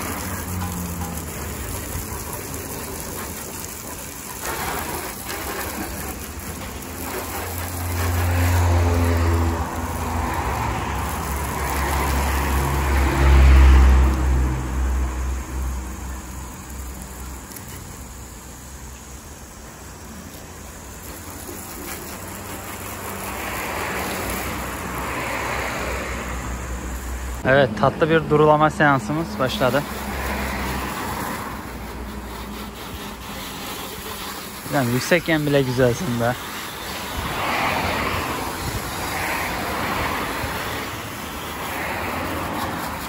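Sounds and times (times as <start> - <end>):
pressure washer spraying: 0.0 - 43.0.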